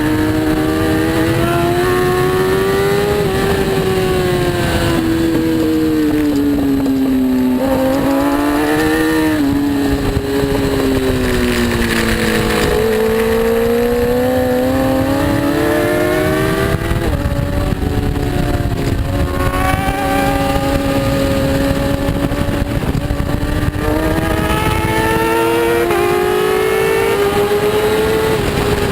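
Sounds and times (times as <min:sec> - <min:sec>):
superbike engine revving: 0:00.0 - 0:28.9.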